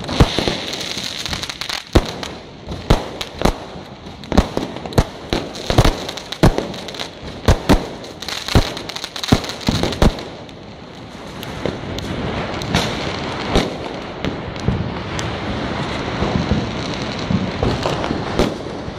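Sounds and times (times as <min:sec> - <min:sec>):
fireworks bangs: 0:00.0 - 0:18.9
fireworks crackling: 0:00.0 - 0:18.9.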